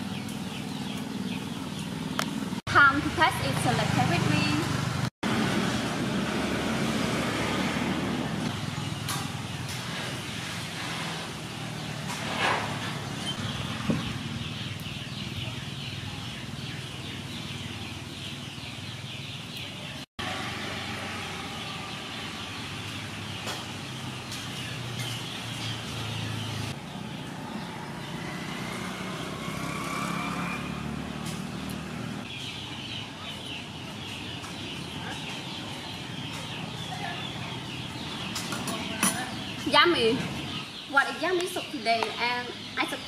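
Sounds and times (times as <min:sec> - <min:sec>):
birds chirping: 0:00.0 - 0:05.1, 0:06.6 - 0:43.0
distant road traffic hum: 0:00.0 - 0:43.0.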